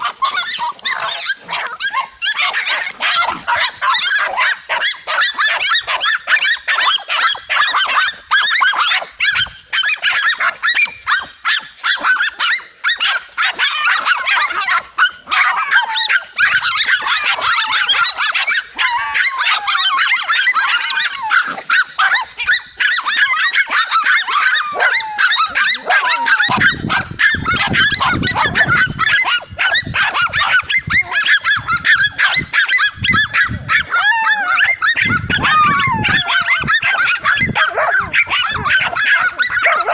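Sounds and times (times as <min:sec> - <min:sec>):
dogs barking and yelping: 0:00.0 - 0:39.9.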